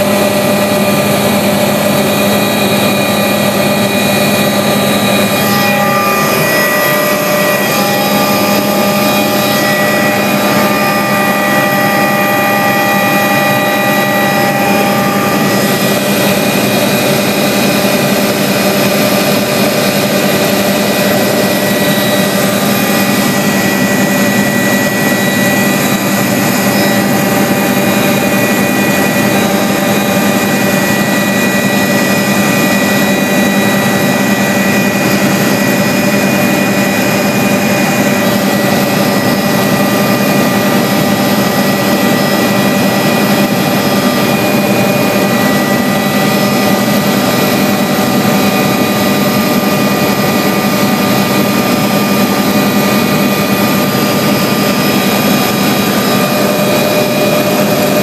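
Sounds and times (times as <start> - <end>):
helicopter engine and rotor drone: 0.0 - 58.0
steady high whine: 0.0 - 58.0.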